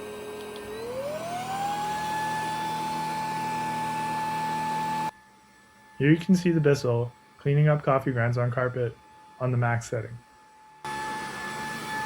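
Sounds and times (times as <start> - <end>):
stick vacuum motor whine: 0.0 - 9.6, 10.7 - 12.0.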